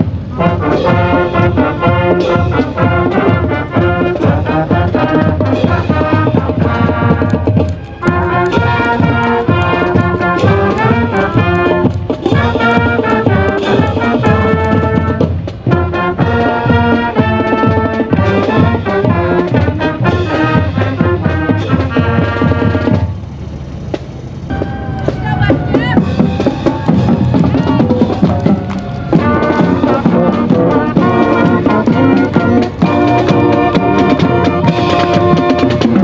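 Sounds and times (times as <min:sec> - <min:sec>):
marching band playing: 0:00.0 - 0:36.0.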